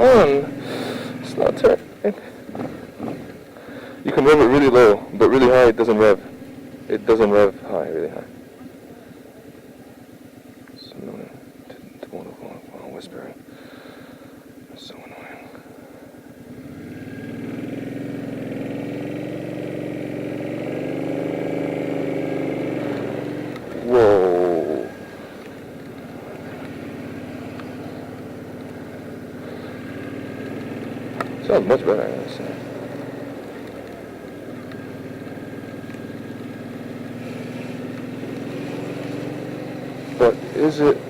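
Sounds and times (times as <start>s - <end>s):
motorcycle engine accelerating: 0.0s - 12.2s, 15.6s - 41.0s.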